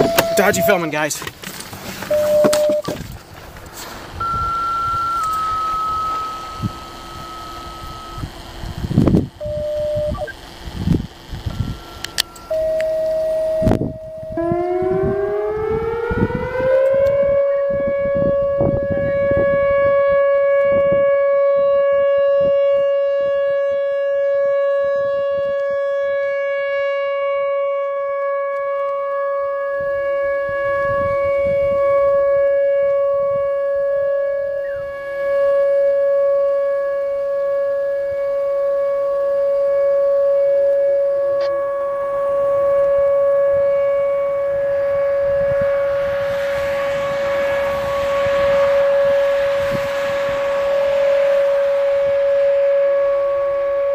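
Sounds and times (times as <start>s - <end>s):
electronic siren steady tone: 0.0s - 1.2s, 2.0s - 3.1s, 4.1s - 53.9s.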